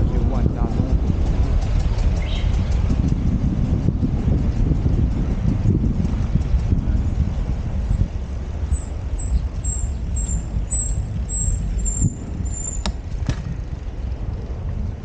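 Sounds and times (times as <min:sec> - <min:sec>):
bicycle road noise: 0:00.0 - 0:15.0
wind noise on microphone: 0:00.0 - 0:15.0.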